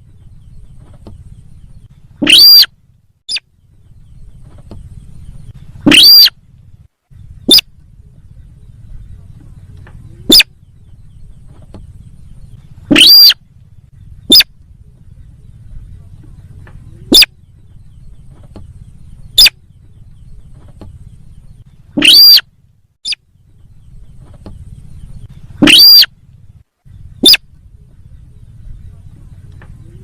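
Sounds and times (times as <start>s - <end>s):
loud bird calls: 0.0s - 30.0s
low steady hum: 0.0s - 30.0s.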